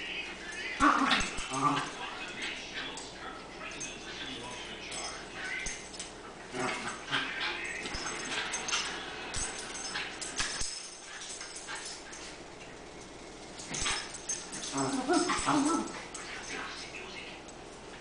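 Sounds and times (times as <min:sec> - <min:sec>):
dogs play-fighting vocalizations: 0:00.8 - 0:03.6, 0:05.0 - 0:16.8.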